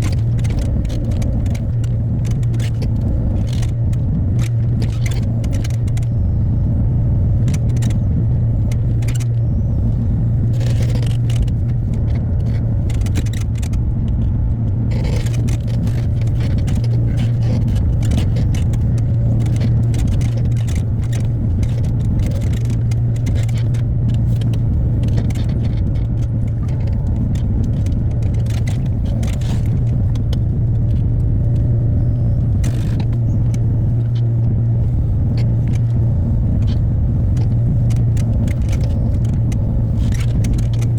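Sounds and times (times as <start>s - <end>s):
machine clanks and rattles: 0.0s - 6.3s, 10.4s - 14.3s, 14.9s - 40.9s.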